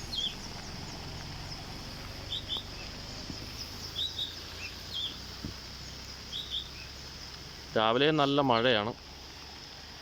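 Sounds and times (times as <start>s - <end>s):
birds chirping: 0.0s - 8.9s
background hiss: 0.0s - 10.0s
high insect drone: 0.0s - 10.0s.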